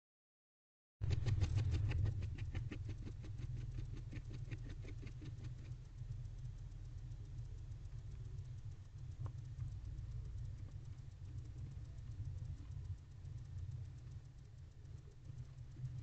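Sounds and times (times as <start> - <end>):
owl beak clicking through feathers: 1.0 - 16.0
steady low hum: 1.0 - 16.0.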